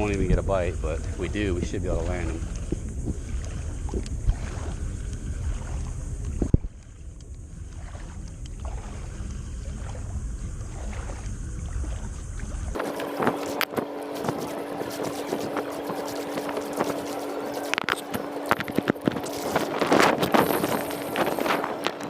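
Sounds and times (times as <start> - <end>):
water sloshing: 0.0 - 22.0
wind rumble on microphone: 0.0 - 22.0.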